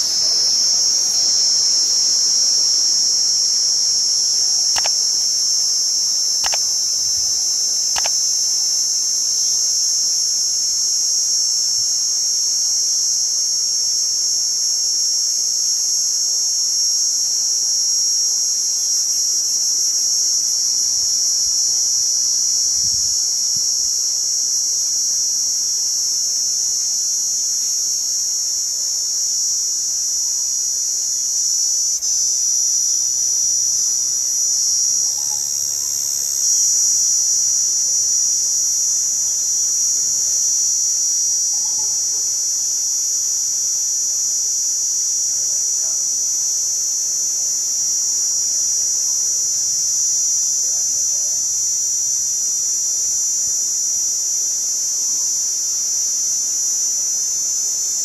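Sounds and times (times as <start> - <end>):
cicada buzzing: 0.0 - 58.0.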